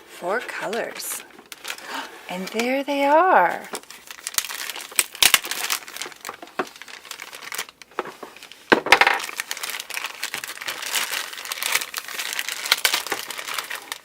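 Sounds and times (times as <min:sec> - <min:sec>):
packaging crinkling and rustling: 0:00.5 - 0:14.0.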